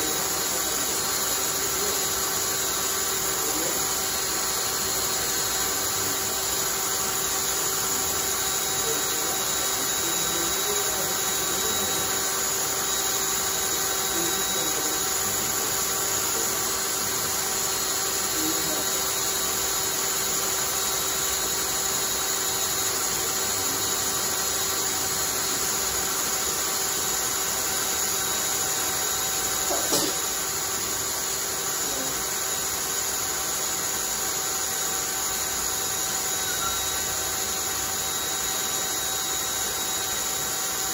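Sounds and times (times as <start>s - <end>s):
cordless drill whine: 0.0s - 40.9s.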